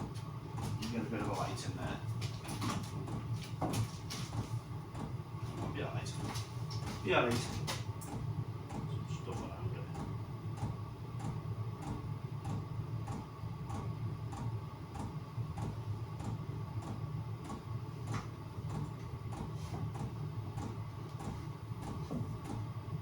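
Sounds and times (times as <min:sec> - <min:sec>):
heater fan humming: 0:00.0 - 0:23.0.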